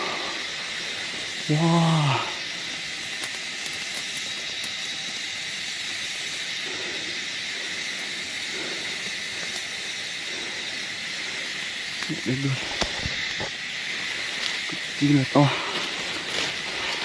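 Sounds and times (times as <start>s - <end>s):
faint high whine: 0.0s - 17.0s
steady hiss: 0.0s - 17.0s.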